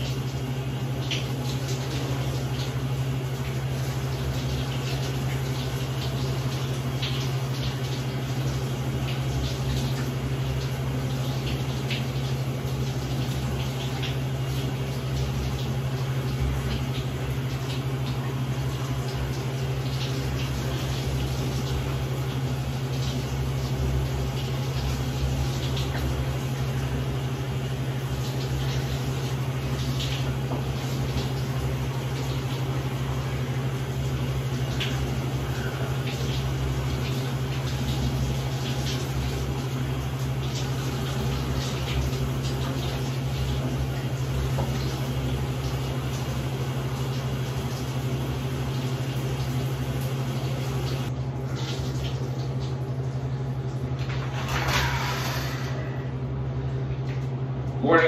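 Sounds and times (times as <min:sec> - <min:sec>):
shower water hissing: 0:00.0 - 0:58.0
steady low hum: 0:00.0 - 0:58.0.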